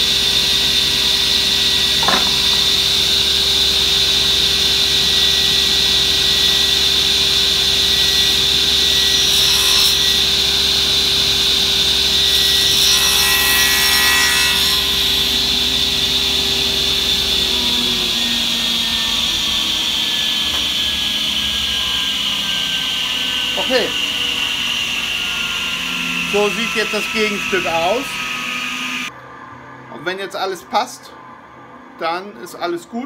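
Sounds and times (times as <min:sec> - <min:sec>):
saw blade cutting wood: 0:00.0 - 0:29.1
saw blade spinning down: 0:00.0 - 0:29.1
table saw running: 0:00.0 - 0:29.1.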